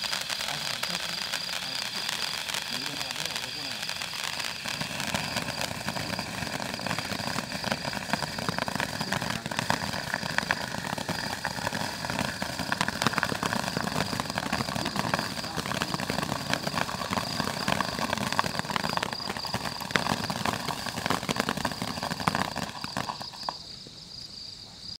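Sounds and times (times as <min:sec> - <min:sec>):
firework wand hissing and crackling: 0:00.0 - 0:23.7.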